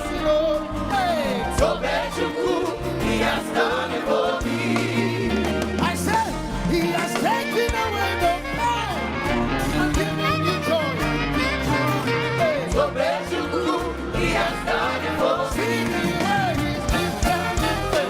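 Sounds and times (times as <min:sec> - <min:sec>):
gospel band playing: 0:00.0 - 0:18.0
people singing: 0:00.0 - 0:18.0.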